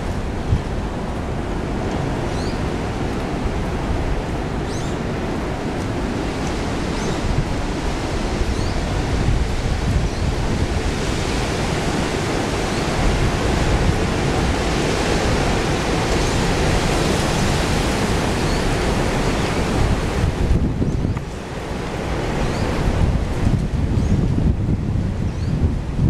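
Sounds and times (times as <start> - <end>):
strong gusty wind on microphone: 0.0 - 26.0.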